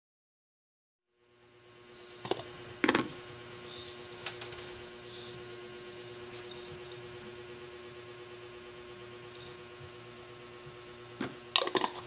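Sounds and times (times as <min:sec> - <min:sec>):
steady hum: 0:01.1 - 0:12.0.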